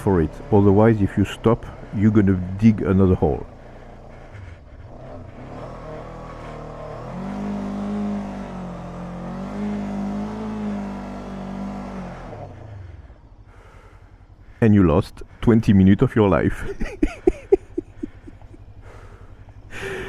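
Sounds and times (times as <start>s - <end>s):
motorcycle engine pulling: 0.0s - 20.0s.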